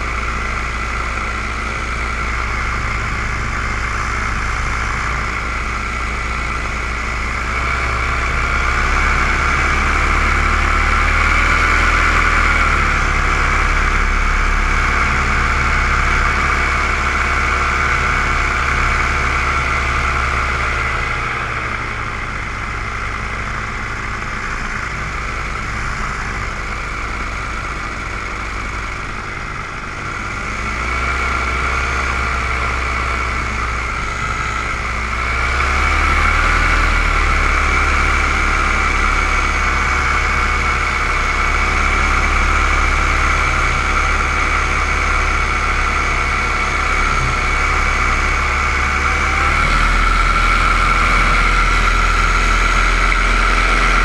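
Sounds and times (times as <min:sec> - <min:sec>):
aircraft propeller and motor whine: 0:00.0 - 0:54.0
low wind rumble: 0:00.0 - 0:54.0.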